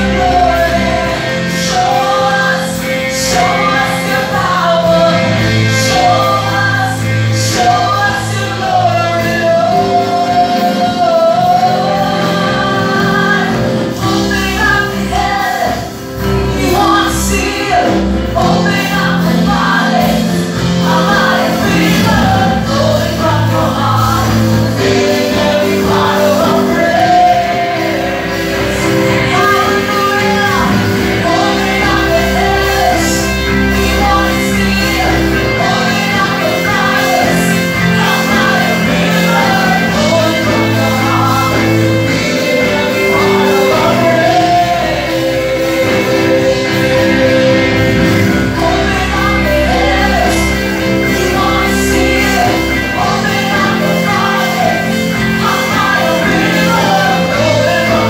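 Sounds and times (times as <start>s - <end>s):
drums: 0.0s - 58.0s
electric guitar: 0.0s - 58.0s
women singing together: 0.0s - 58.0s.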